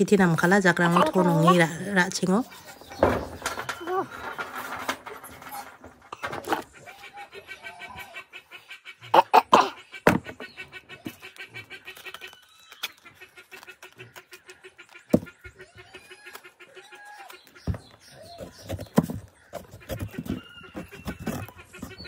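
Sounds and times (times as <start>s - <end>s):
chicken clucking: 0.4s - 22.0s.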